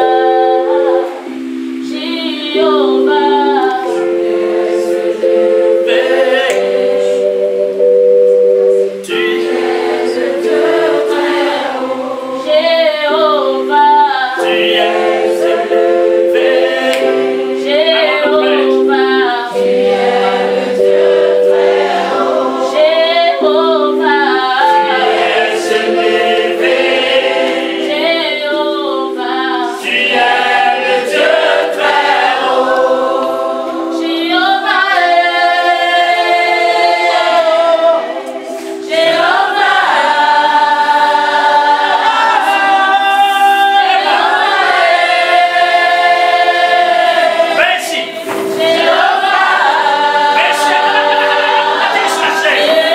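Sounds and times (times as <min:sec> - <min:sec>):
congregation singing: 0:00.0 - 0:52.9.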